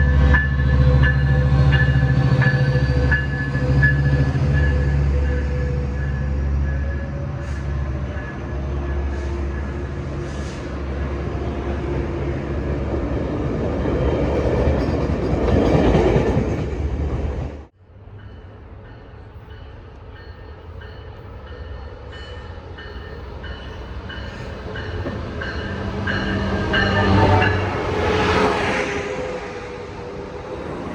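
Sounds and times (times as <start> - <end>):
diesel train passing: 0.0 - 30.9.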